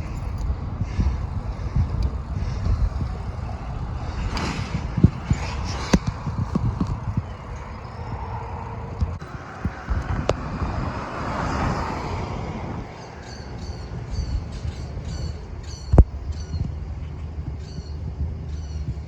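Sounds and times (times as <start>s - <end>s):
vehicle passing: 0.0s - 18.5s
background traffic rumble: 0.0s - 19.0s.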